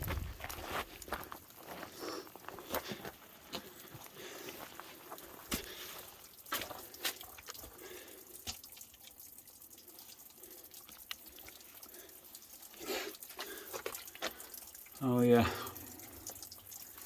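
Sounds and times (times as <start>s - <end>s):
water drops dripping: 2.9s - 17.0s.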